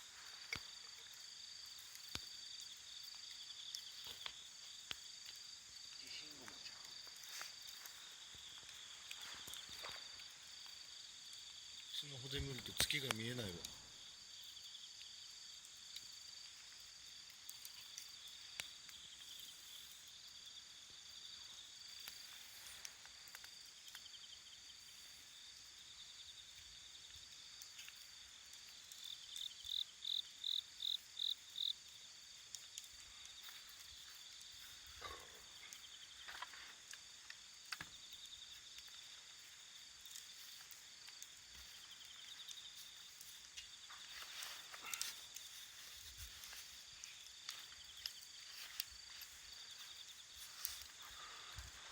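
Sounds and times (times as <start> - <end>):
loud insect chirps: 0.0 - 51.9
night insects chirring: 0.0 - 51.9
wood fire crackling: 0.0 - 51.9.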